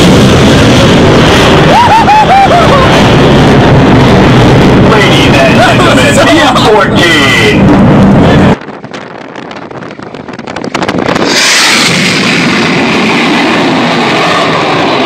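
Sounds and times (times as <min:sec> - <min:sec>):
fighter jet roar: 0:00.0 - 0:15.0
wind buffeting microphone: 0:00.0 - 0:15.0.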